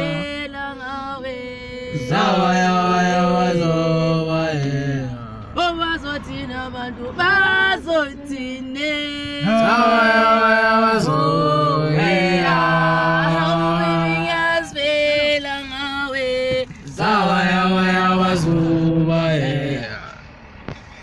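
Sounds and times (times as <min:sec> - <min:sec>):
young male voices chanting: 0:00.0 - 0:00.6, 0:01.7 - 0:20.1.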